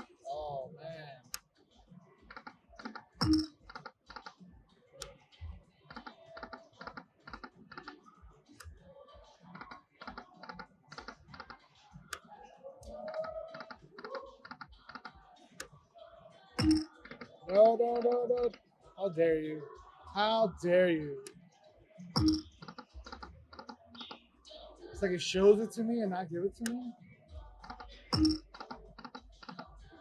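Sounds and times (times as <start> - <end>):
faint electronic tones: 2.0 - 25.8, 26.4 - 30.0.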